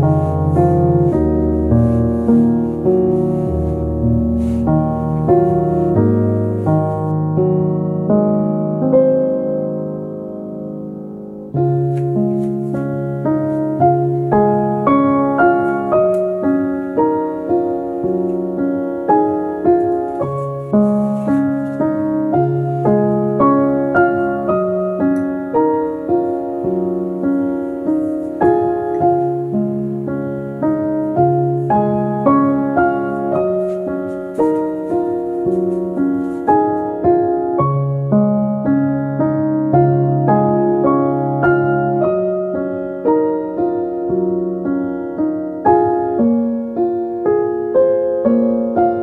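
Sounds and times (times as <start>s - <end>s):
gentle piano music: 0.0s - 49.0s.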